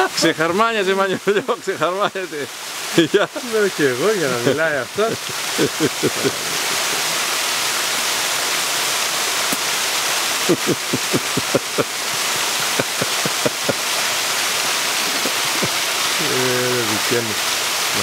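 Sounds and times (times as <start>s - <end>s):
waterfall and stream rushing: 0.0s - 18.0s.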